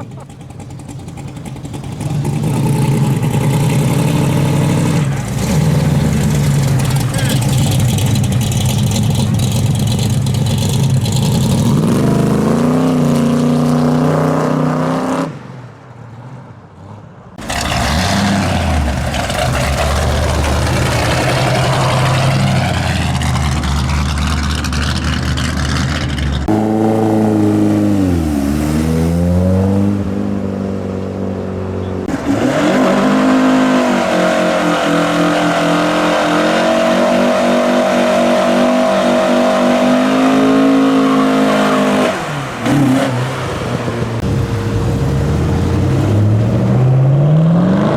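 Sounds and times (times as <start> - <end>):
muscle car engines revving: 0.0 - 15.4, 16.8 - 47.9.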